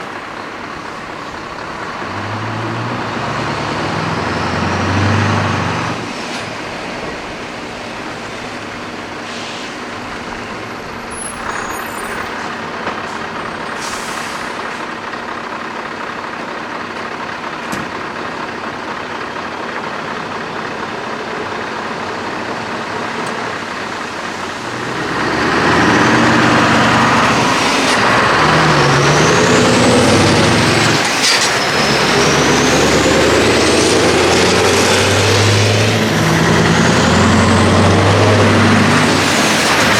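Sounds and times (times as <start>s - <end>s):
truck engines rumbling: 0.0s - 39.9s
truck pulling away revving: 0.0s - 39.9s.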